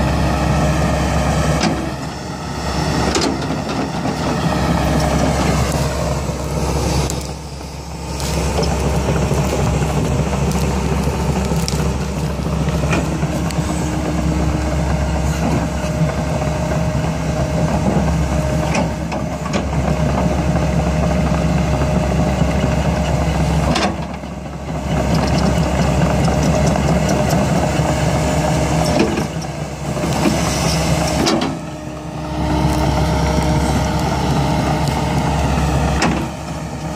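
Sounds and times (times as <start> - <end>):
heavy diesel engines droning: 0.0 - 36.9.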